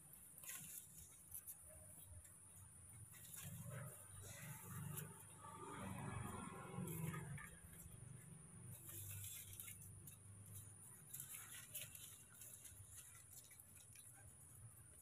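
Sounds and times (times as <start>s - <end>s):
rustling of leaves and branches: 0.0s - 15.0s.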